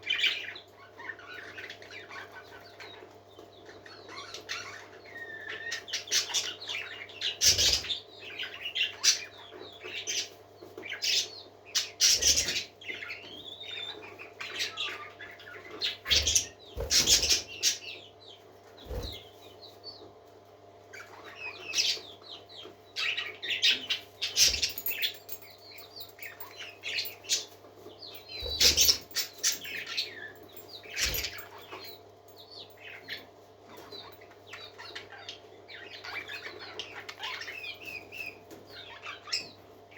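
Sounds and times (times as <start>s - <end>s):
parakeets chirping: 0.0s - 18.1s, 20.9s - 39.6s.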